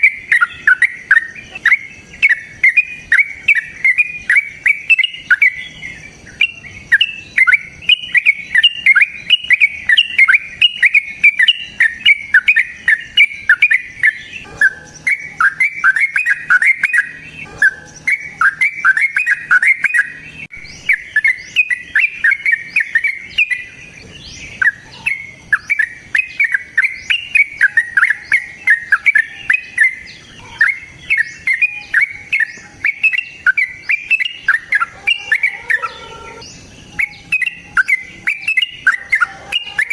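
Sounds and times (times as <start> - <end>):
lovebird rapid chattering call: 0.0 - 39.9.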